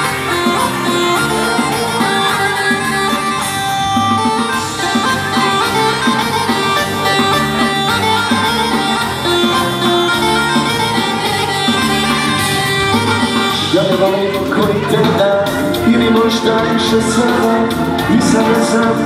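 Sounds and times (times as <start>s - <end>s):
loud dance music: 0.0s - 19.0s.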